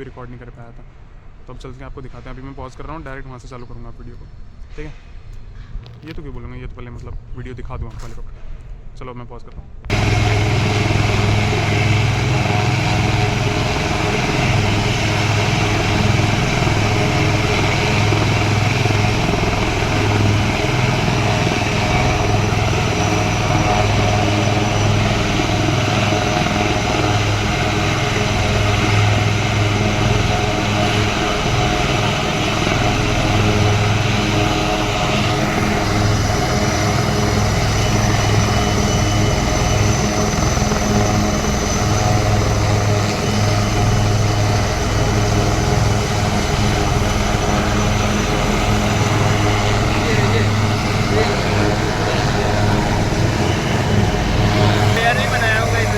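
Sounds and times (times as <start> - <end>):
helicopter engine whine: 9.9 - 55.9
helicopter rotor pulsing: 9.9 - 55.9.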